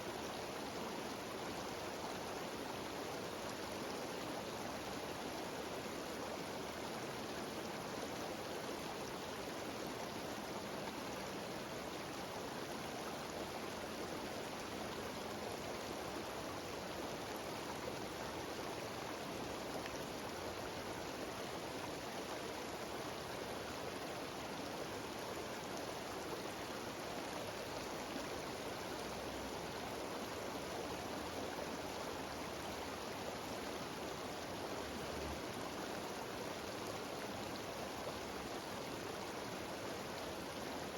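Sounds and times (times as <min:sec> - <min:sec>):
stream and waterfall rushing: 0:00.0 - 0:40.9.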